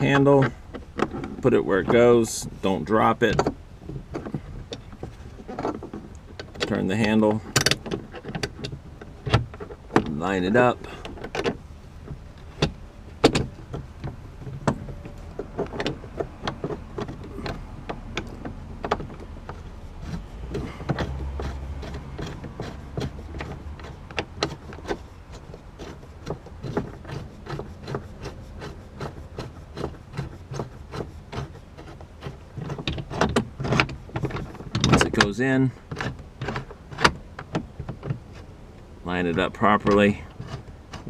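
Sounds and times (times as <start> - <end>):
clicks and knocks of bolt turning: 0.0 - 41.0.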